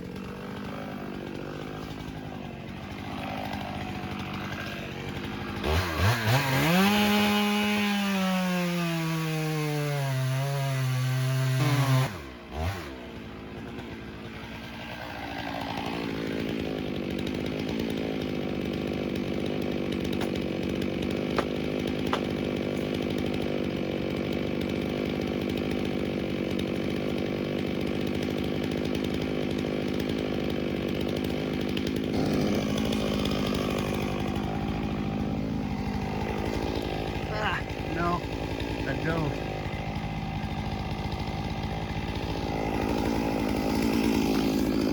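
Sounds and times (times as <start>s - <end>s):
chainsaw revving and cutting: 0.0s - 44.9s.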